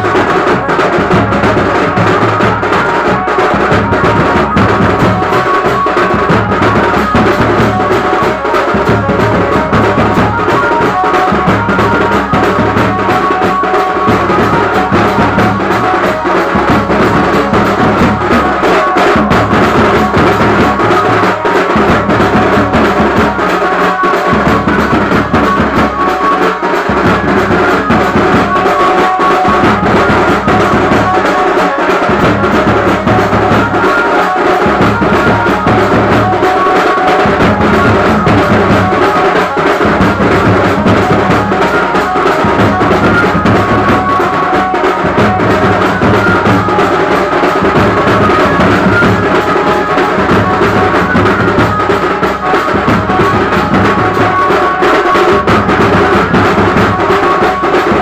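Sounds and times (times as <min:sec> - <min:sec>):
drums beating: 0:00.0 - 0:58.0
procession band playing: 0:00.0 - 0:58.0.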